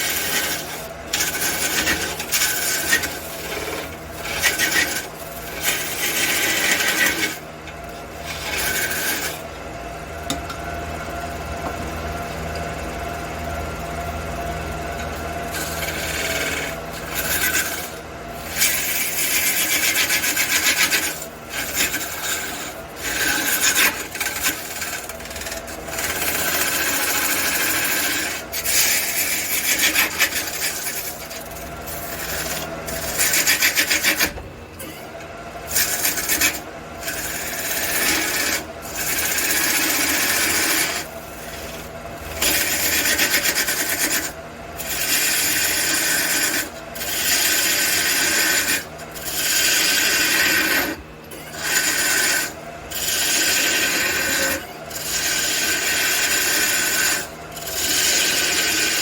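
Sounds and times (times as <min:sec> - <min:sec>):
tool rasping on spinning wood: 0:00.0 - 0:10.4, 0:13.9 - 0:59.0
wood lathe humming: 0:00.0 - 0:59.0.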